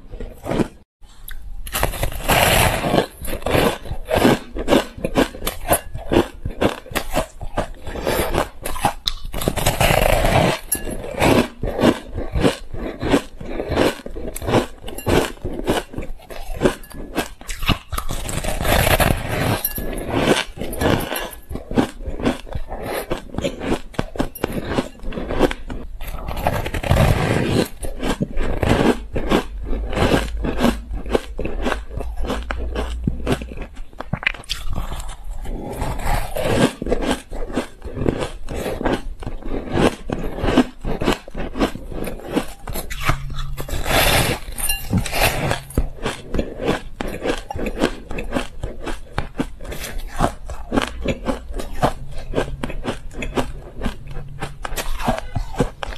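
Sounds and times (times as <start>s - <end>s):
ice crunching while chewed: 0.0s - 55.9s.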